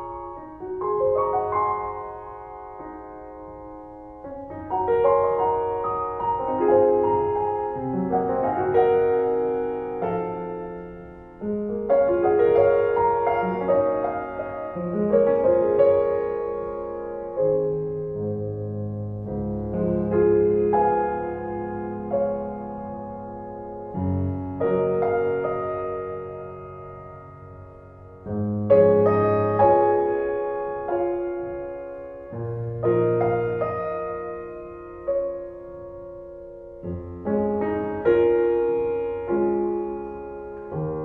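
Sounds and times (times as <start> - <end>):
slow piano music: 0.0 - 41.0.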